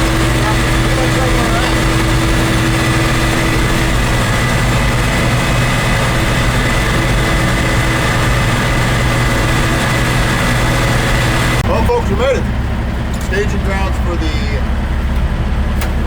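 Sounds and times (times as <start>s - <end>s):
high whine: 0.0s - 14.9s
road noise: 0.0s - 16.0s
truck engine drone: 0.0s - 16.0s.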